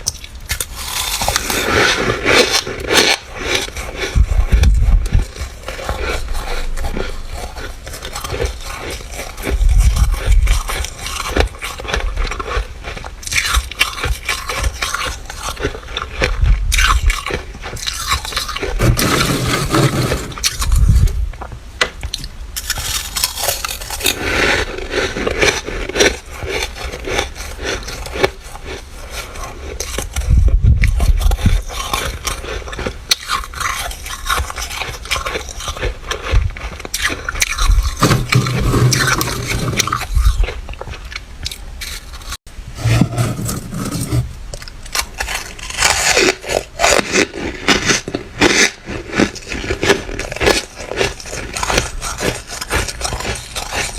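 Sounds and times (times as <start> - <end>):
frost scraping: 0.0 - 21.2, 22.6 - 40.6, 41.8 - 53.9.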